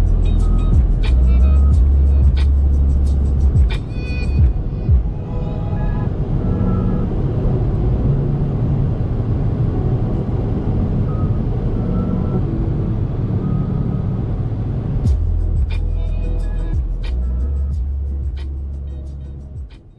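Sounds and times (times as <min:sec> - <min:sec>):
diesel engine running: 0:00.0 - 0:19.8
tyre and road noise: 0:00.0 - 0:19.9.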